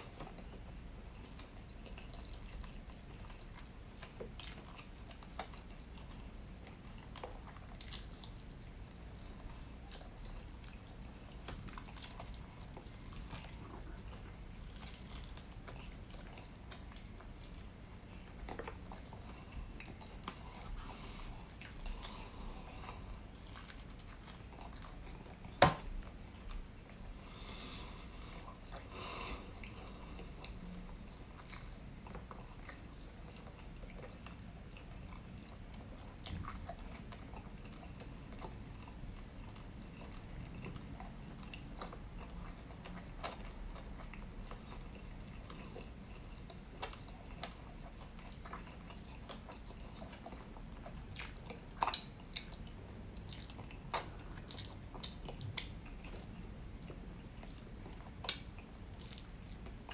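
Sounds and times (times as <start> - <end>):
chewing chicken: 0.0 - 59.9.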